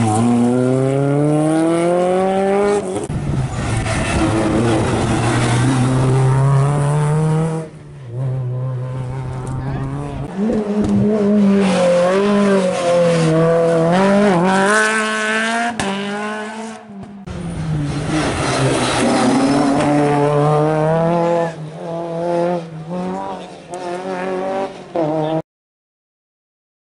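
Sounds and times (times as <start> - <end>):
rally car engine revving: 0.0 - 25.4.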